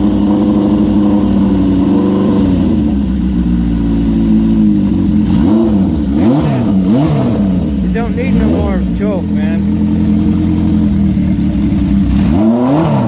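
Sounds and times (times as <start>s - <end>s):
engine revving: 0.0s - 13.0s
motorcycle engine idling: 0.0s - 13.0s.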